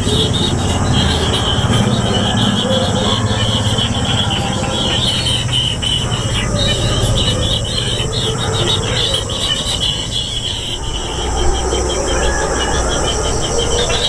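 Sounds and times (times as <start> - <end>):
nestlings buzzing begging calls: 0.0 - 14.0.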